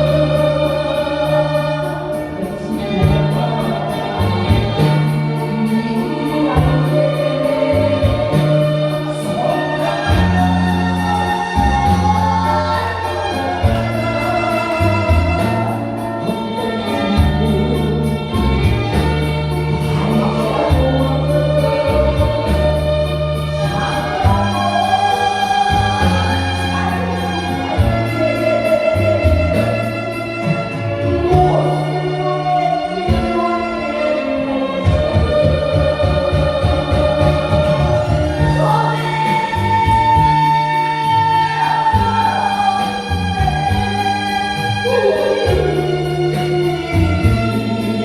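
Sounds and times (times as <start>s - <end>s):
backing music with bass line: 0.0s - 48.0s
person singing with vibrato: 0.0s - 48.0s.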